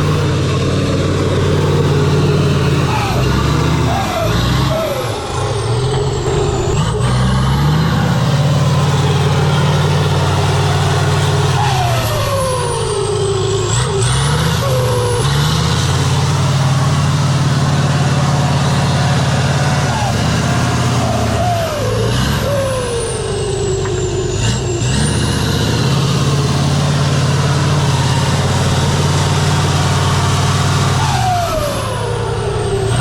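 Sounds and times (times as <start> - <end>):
diesel truck engine under load: 0.0 - 33.0
falling whine: 0.0 - 33.0.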